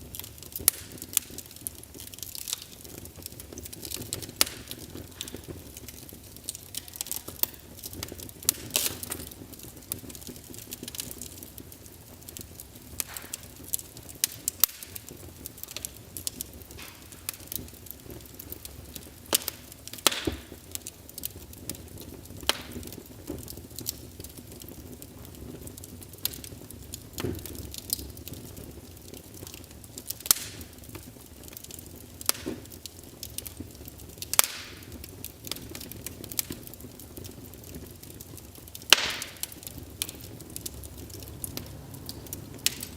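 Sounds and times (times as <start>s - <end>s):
fire crackling and popping: 0.0s - 42.9s
wood fire rumbling: 0.0s - 42.9s.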